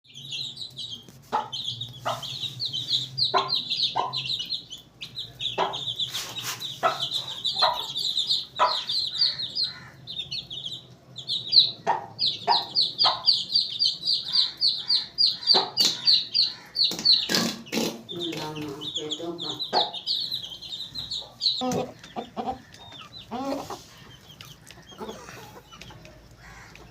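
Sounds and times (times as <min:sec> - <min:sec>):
chickens clucking: 0:00.1 - 0:26.9.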